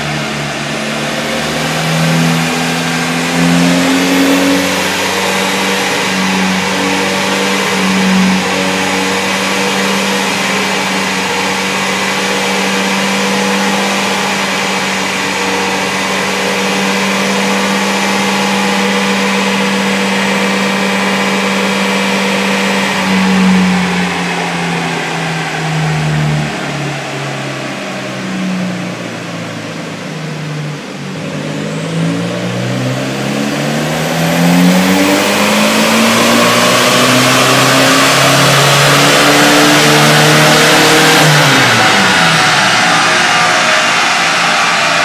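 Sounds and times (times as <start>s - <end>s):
turbocharged car engine revving: 0.0s - 45.0s.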